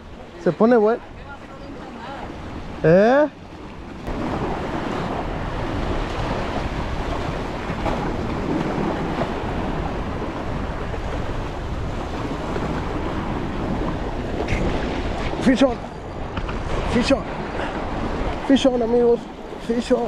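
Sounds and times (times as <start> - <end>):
surf washing against rocks: 0.0 - 20.0
wind buffeting microphone: 0.0 - 20.0.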